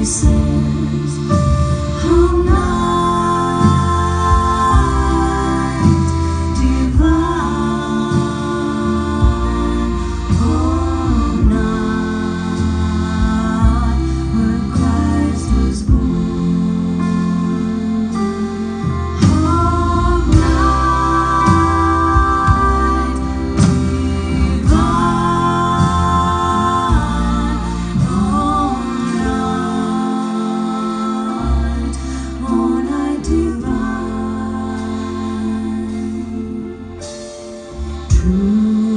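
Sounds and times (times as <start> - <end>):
accordion: 0.0 - 38.9
double bass: 0.0 - 38.9
guitar: 0.0 - 38.9
women singing close harmony: 0.0 - 38.9.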